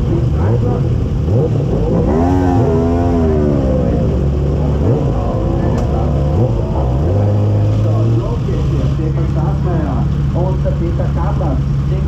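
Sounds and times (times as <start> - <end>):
engine throttle blips: 0.0 - 12.0
motorcycle engine idling: 0.0 - 12.0.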